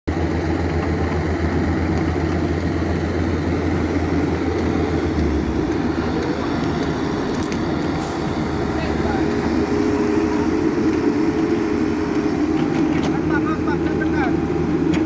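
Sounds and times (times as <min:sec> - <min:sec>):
excavator diesel engine humming: 0:00.1 - 0:15.0.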